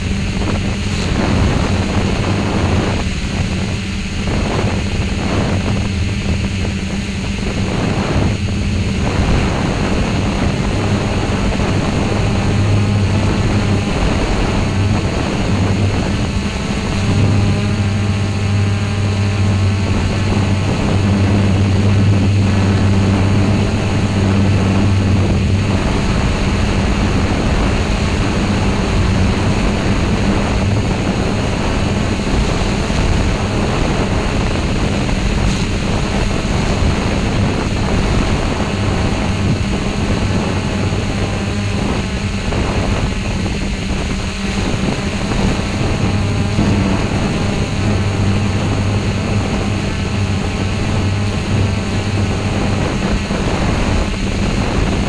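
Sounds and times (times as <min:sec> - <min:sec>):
drone motors humming: 0:00.0 - 0:55.0.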